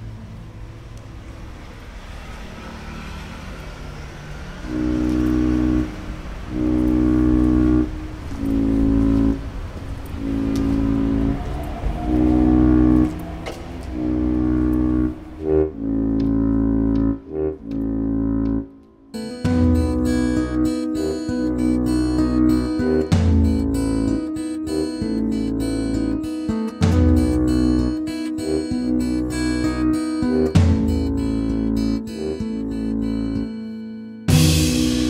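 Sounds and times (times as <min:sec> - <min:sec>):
low hazy drone: 0:00.0 - 0:35.0
held low chords: 0:04.4 - 0:35.0.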